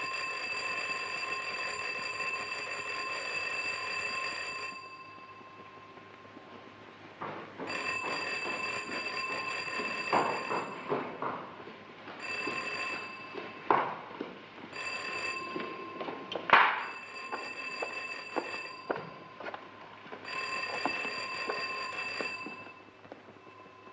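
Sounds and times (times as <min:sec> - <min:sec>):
electric alarm ringing: 0:00.0 - 0:06.8, 0:07.6 - 0:11.4, 0:12.2 - 0:23.9.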